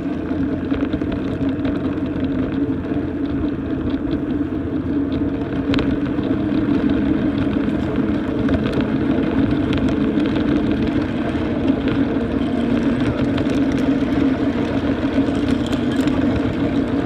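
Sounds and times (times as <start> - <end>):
miniature train engine rumble: 0.0 - 17.0.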